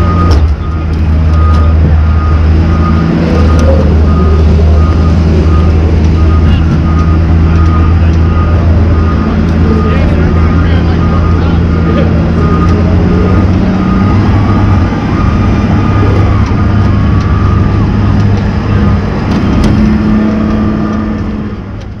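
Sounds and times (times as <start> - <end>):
loud car engine revving: 0.0 - 22.0.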